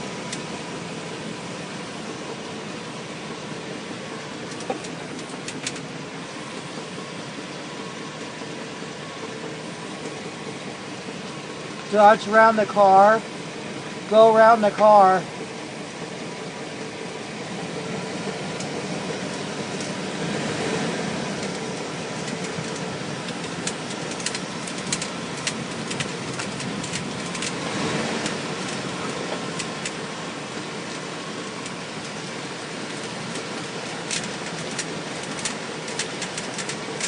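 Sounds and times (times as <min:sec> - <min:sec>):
car driving slowly: 0:00.0 - 0:37.0.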